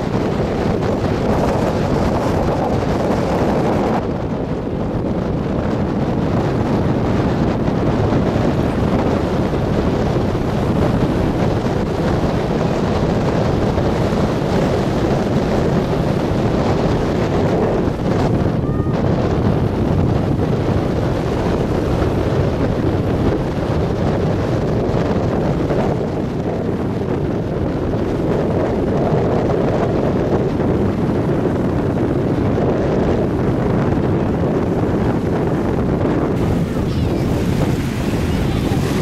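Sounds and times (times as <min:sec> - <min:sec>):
waves breaking on shore: 0:00.0 - 0:28.4, 0:33.3 - 0:39.0
wind buffeting microphone: 0:00.0 - 0:39.0.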